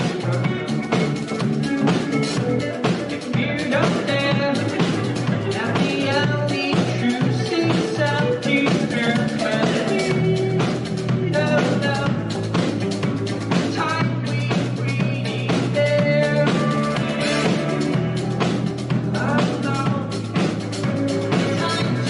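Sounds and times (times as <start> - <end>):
person singing: 0.0 - 22.0
rock band playing live: 0.0 - 22.0.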